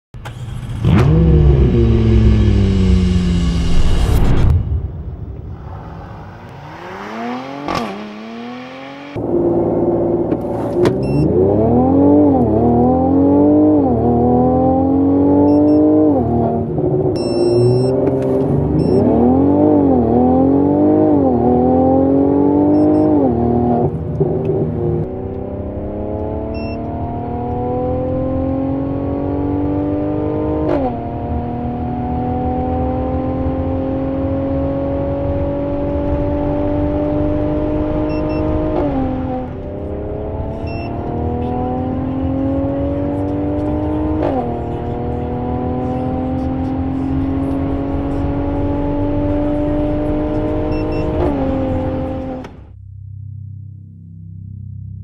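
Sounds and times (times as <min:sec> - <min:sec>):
car engine accelerating: 0:00.2 - 0:52.8.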